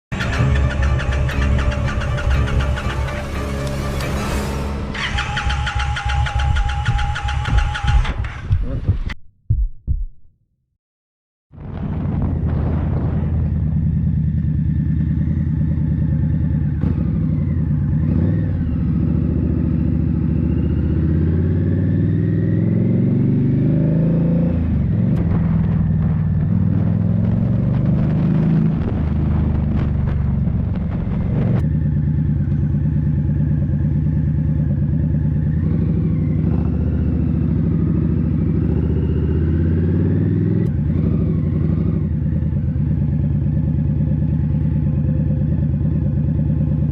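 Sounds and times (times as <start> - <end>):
motorcycle engine accelerating: 0.1 - 9.1, 11.6 - 46.9.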